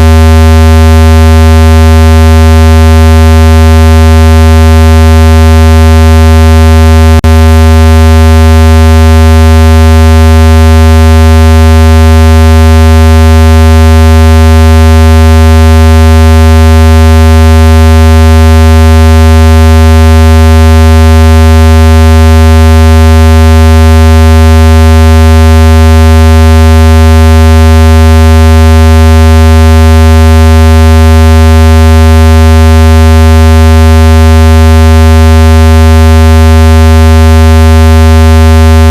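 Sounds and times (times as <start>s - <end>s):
low buzzy tone: 0.0s - 38.9s.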